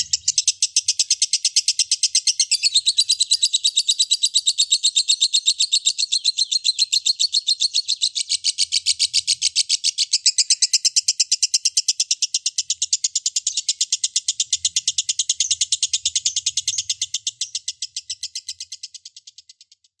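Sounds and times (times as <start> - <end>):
lovebird chattering trill: 0.0 - 19.9.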